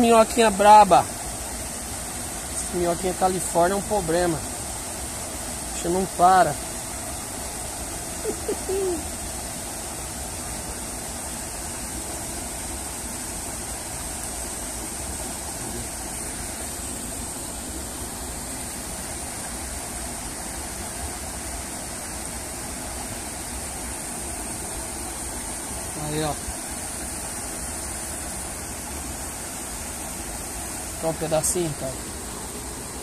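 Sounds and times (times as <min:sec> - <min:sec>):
stream and waterfall rushing: 0:00.0 - 0:33.0.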